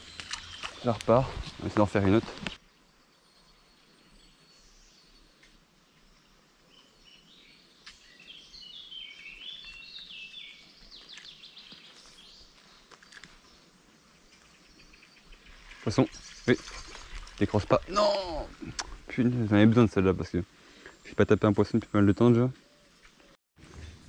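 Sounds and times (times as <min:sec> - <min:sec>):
birdsong: 0:00.0 - 0:24.0.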